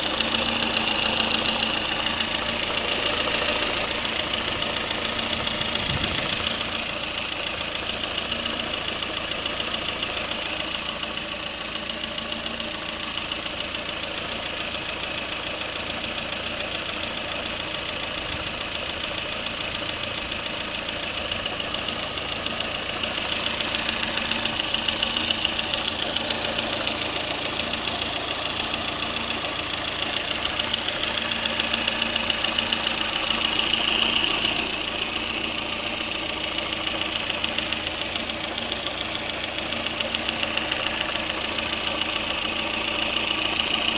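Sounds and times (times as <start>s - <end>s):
car engine knocking: 0.0s - 43.9s.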